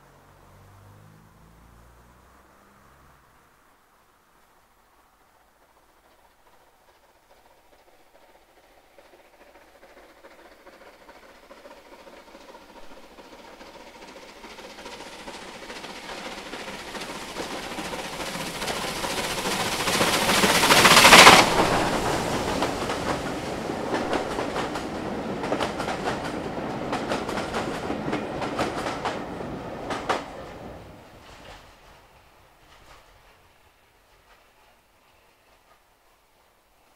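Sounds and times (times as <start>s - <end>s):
wheels clicking over rail joints: 5.0s - 36.0s
steam locomotive working hard: 5.3s - 36.9s.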